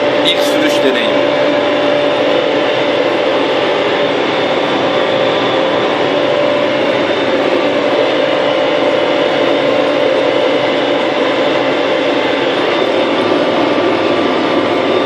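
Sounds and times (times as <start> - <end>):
constant whine: 0.0 - 15.0
tractor diesel engine drone: 0.0 - 15.0.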